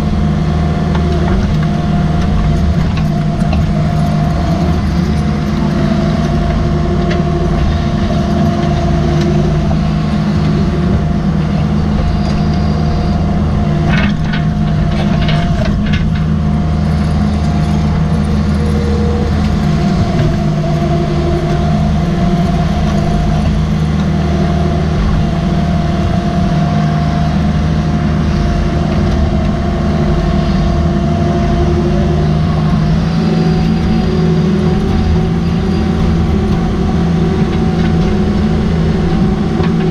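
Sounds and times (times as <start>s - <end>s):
diesel engine under load: 0.0s - 39.9s
hydraulic whine: 0.0s - 39.9s.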